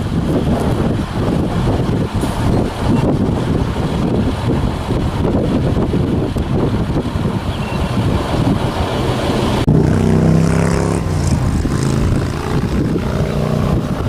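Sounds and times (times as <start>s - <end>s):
engine drone: 0.0s - 14.0s
wind buffeting microphone: 0.0s - 14.0s.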